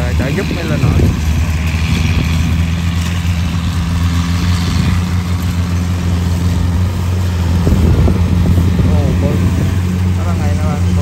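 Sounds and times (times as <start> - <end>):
combine harvester diesel engine: 0.0 - 11.0
second combine engine running: 0.0 - 11.0.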